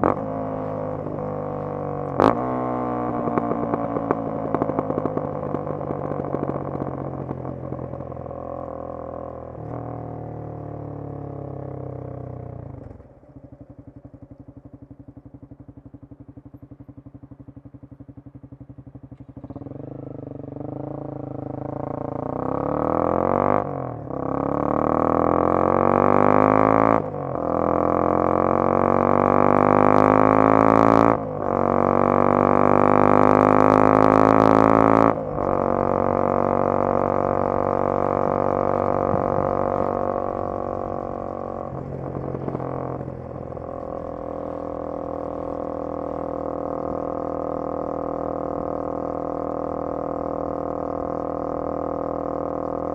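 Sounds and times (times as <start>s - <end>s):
motorcycle engine idling and revving: 0.0s - 52.9s.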